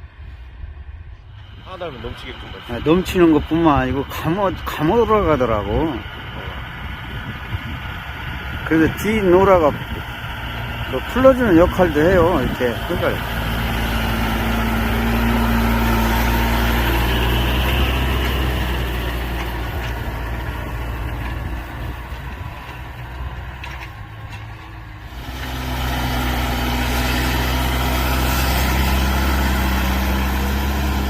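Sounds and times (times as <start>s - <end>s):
tractor diesel engine running: 0.1s - 31.0s.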